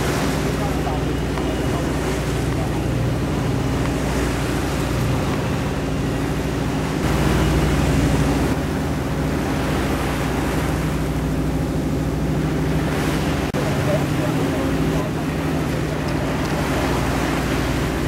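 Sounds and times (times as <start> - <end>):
boat engine running: 0.0 - 18.0
wind and water rushing: 0.0 - 18.0.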